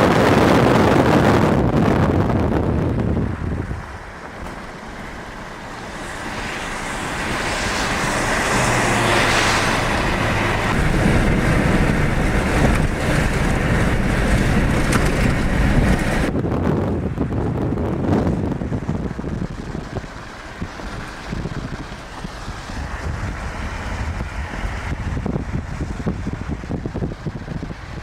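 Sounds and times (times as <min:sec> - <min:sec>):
low rumble: 0:00.0 - 0:28.0
rainstorm rushing: 0:00.0 - 0:28.0
wind buffeting microphone: 0:00.0 - 0:28.0.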